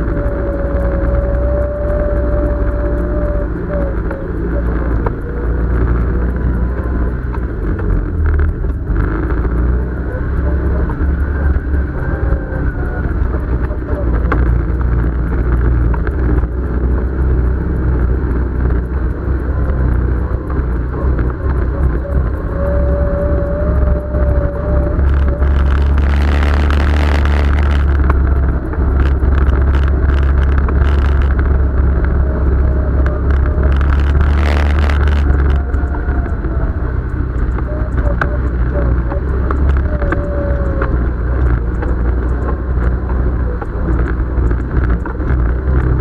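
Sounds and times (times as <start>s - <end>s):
off-road vehicle engine running: 0.0s - 46.0s
trail and chassis noise: 0.0s - 46.0s.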